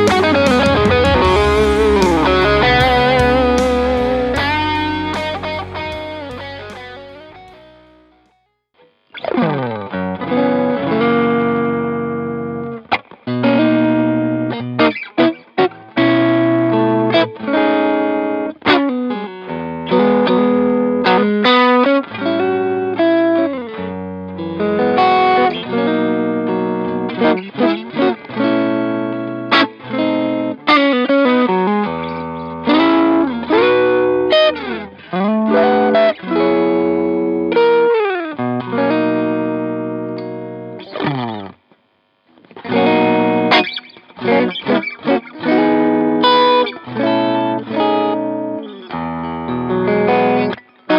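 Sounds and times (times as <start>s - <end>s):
overdriven electric guitar: 0.0s - 50.9s.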